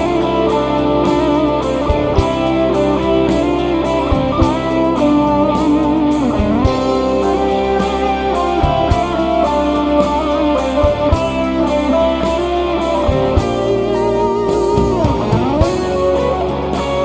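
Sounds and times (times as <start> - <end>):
electric guitar bending notes: 0.0 - 17.0
live band music: 0.0 - 17.0.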